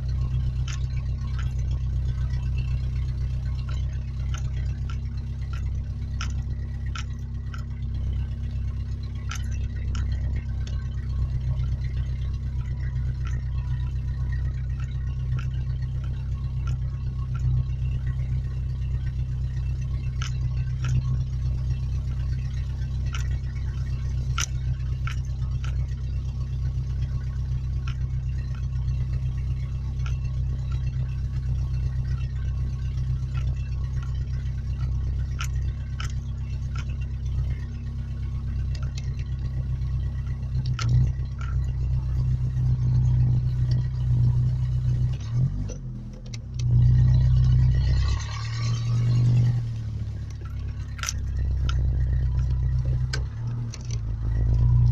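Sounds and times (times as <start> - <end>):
sharp clicks and rattles: 0.0 - 54.9
truck engine rumbling: 0.0 - 54.9.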